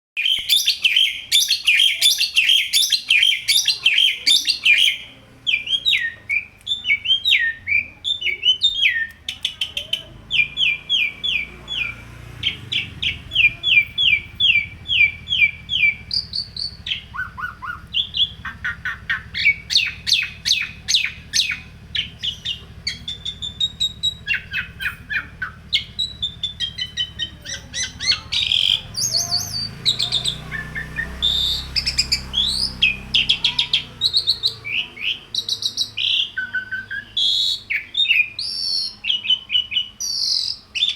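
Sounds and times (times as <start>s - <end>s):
bird singing: 0.2s - 40.9s.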